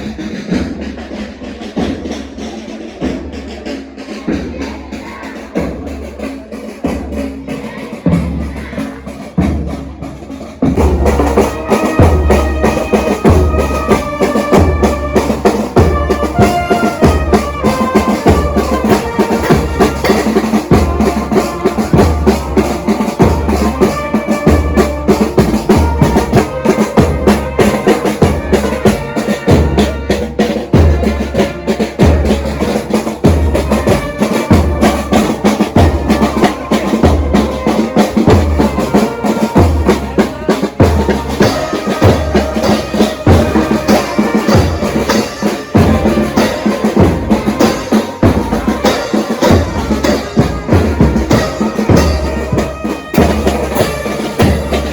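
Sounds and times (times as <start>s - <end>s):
band playing march: 0.0s - 54.9s
snare drum: 0.0s - 54.9s.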